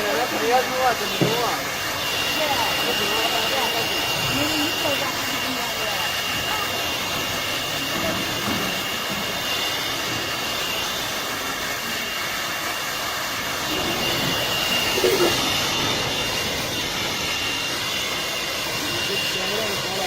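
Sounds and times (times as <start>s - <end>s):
thin high whine: 0.0s - 20.0s
welding torch flame hissing: 0.0s - 20.0s.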